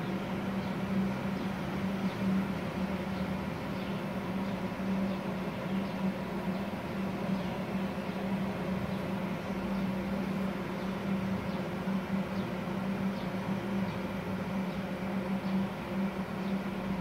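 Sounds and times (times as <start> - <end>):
cooling fans running: 0.0 - 17.0.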